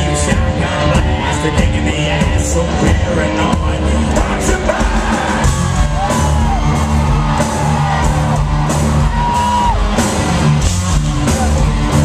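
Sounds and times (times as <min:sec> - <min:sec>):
hard rock band playing: 0:00.0 - 0:12.0.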